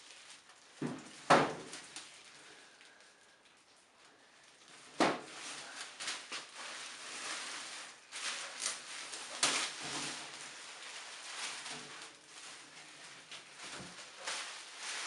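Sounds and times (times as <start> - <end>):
rustling and scraping: 0.0 - 15.0.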